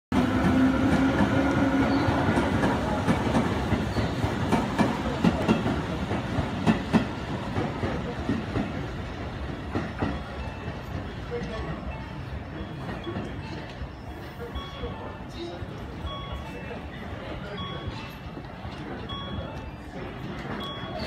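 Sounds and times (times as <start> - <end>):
electric train running past: 0.2 - 21.0.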